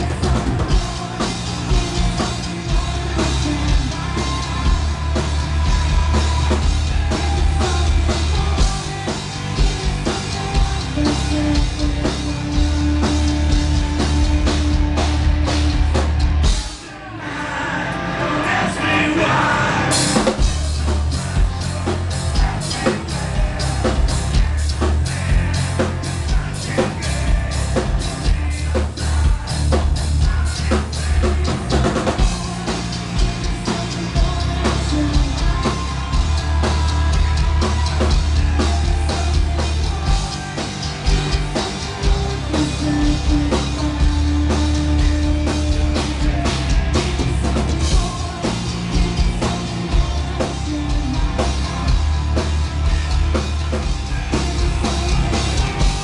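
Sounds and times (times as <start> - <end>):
metal band playing live: 0.0 - 56.0
person singing: 0.0 - 56.0.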